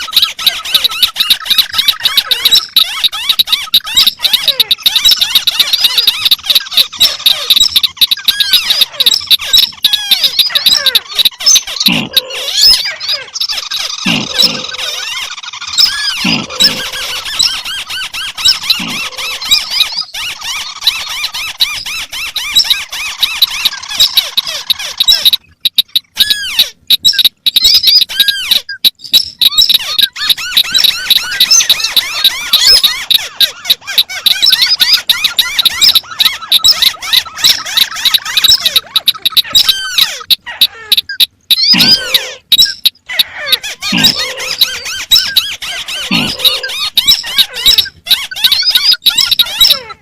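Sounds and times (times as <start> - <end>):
crakes calling: 0.0 - 50.0.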